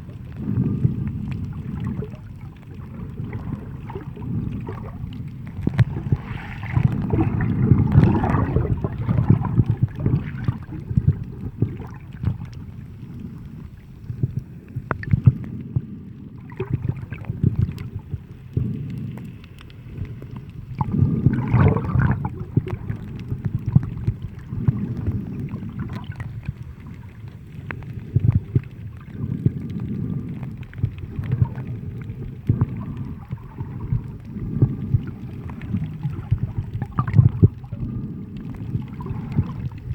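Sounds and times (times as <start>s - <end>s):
sea water sloshing: 0.0s - 39.9s.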